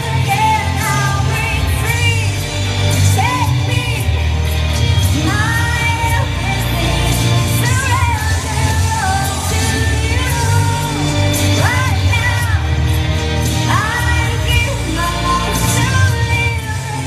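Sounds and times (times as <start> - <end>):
backing track bass line: 0.0 - 17.0
woman singing pop ballad: 0.0 - 17.0.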